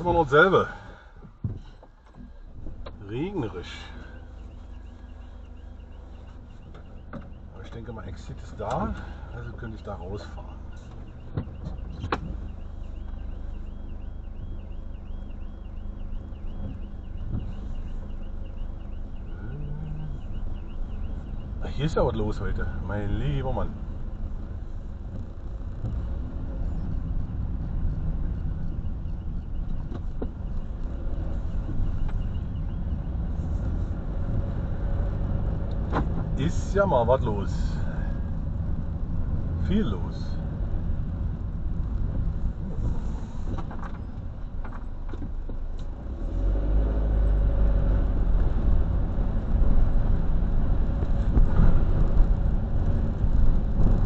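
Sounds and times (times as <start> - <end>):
van engine and tyre rumble: 0.0 - 54.0.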